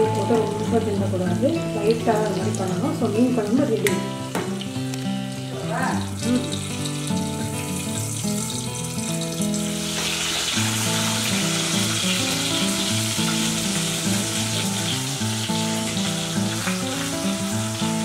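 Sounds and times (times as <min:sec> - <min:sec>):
background music of held notes: 0:00.0 - 0:18.0
fish sizzling in oil: 0:00.0 - 0:18.0.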